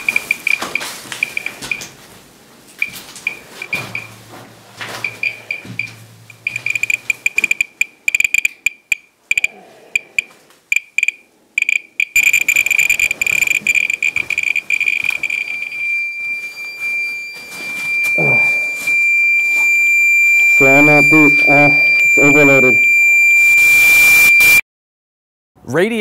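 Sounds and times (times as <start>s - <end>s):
geiger counter chirping: 0.0s - 1.9s, 2.8s - 4.2s, 5.0s - 24.6s.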